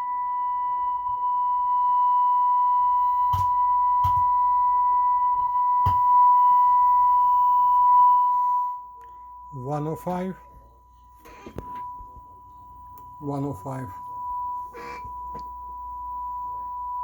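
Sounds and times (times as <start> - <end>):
steady test tone: 0.0 - 17.0.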